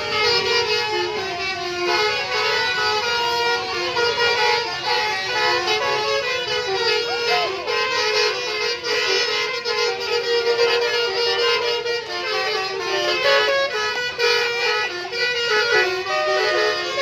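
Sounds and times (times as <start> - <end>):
musical bus horn tune: 0.0 - 17.0.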